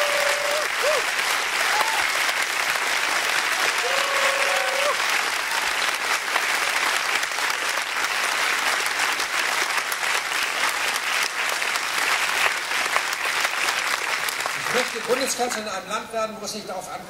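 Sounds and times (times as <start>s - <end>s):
crowd applauding: 0.0s - 15.8s.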